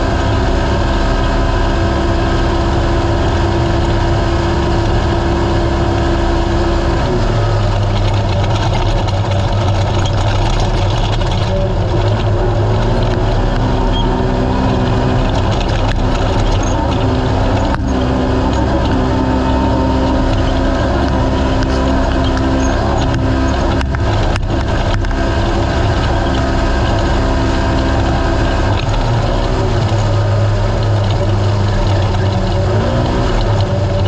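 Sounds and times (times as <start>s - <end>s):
race car engine under load: 0.0s - 34.0s.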